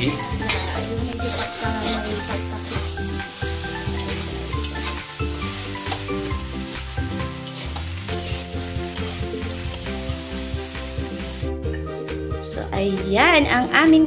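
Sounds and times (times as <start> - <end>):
metal spatula scraping wok: 0.0 - 11.6
rice sizzling in a wok: 0.0 - 11.8.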